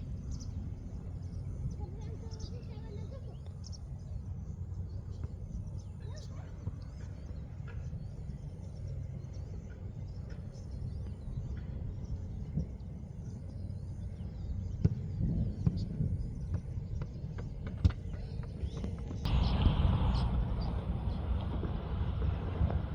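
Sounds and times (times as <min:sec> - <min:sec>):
faint birds chirping: 0:00.0 - 0:22.9
steady low rumble: 0:00.0 - 0:22.9.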